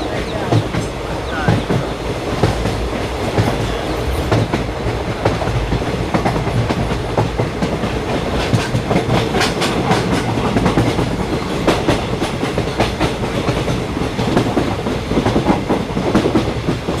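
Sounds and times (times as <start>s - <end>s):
train rumbling: 0.0s - 17.0s
wheels clattering over rails: 0.0s - 17.0s.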